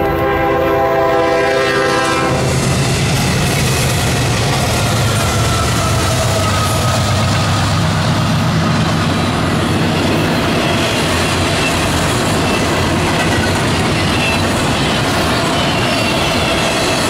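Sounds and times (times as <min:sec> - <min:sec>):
diesel locomotive engine hum: 0:00.0 - 0:17.0
train wheels clattering over rail joints: 0:02.5 - 0:17.0.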